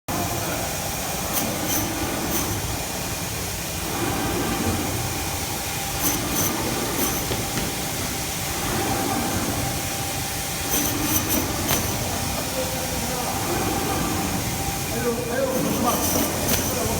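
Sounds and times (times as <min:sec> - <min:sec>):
band saw running with whine: 0:00.1 - 0:16.9.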